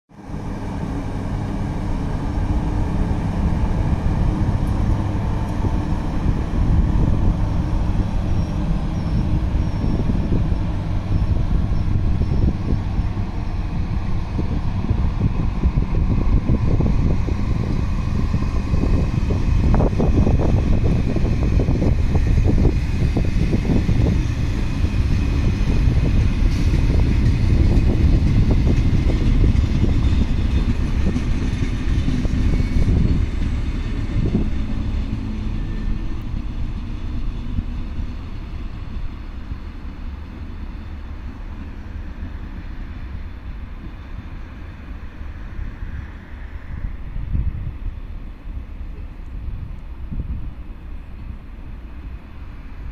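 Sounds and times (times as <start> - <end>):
train coaches rumbling past: 0.1 - 52.9.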